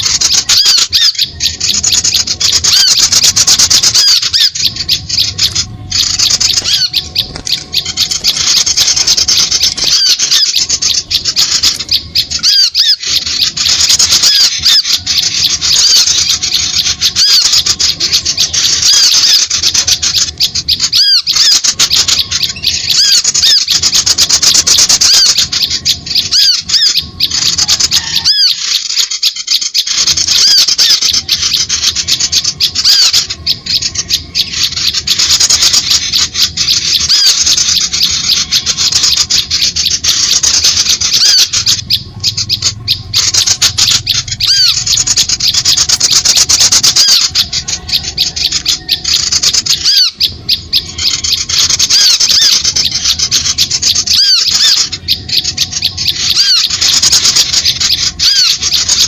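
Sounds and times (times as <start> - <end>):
high-pitched small bird chirps: 0.0 - 59.0.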